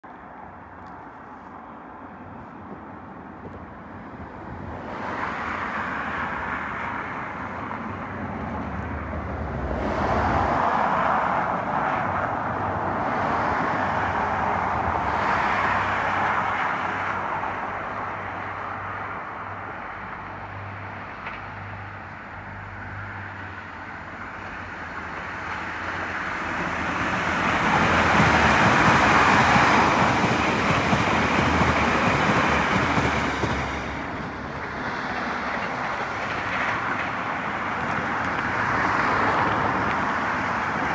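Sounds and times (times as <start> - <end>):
cars passing: 0.1 - 40.9.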